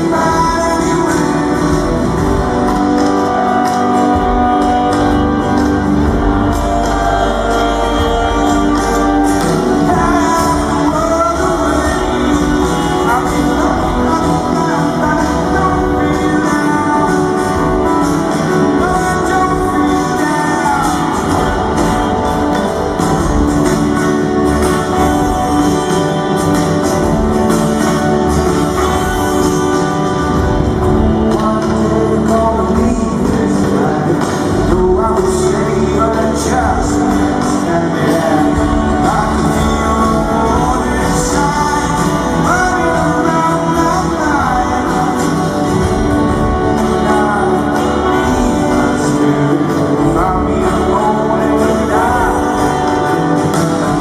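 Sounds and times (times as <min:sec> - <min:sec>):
person singing: 0:00.0 - 0:54.0
rock band playing: 0:00.0 - 0:54.0
strummed guitar: 0:00.0 - 0:54.0.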